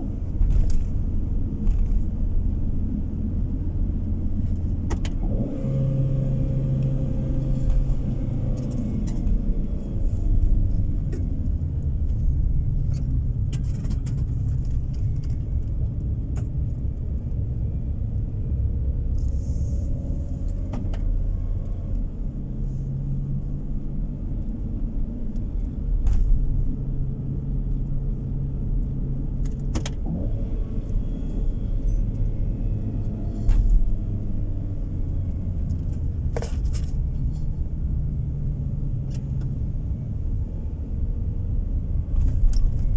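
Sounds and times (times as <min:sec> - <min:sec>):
car interior road and engine rumble: 0:00.0 - 0:42.9.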